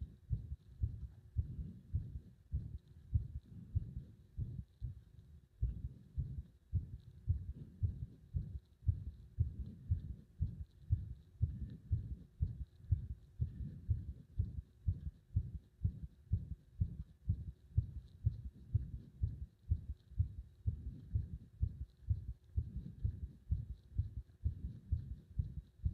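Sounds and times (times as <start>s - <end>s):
heart beating: 0.0s - 25.9s.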